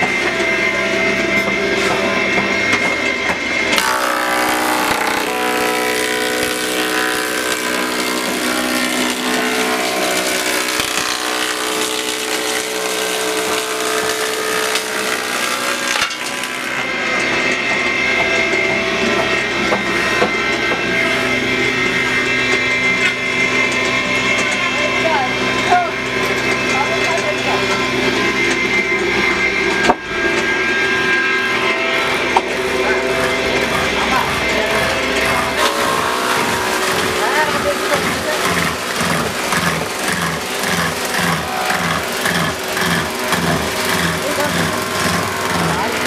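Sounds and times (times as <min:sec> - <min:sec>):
planer cutting a board: 0:00.0 - 0:46.0
planer running unloaded: 0:00.0 - 0:46.0.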